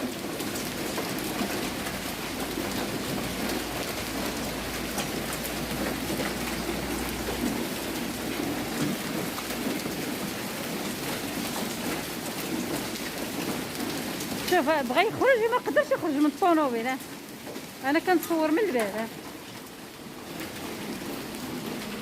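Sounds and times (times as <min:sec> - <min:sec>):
heavy rain with hail: 0:00.0 - 0:22.0.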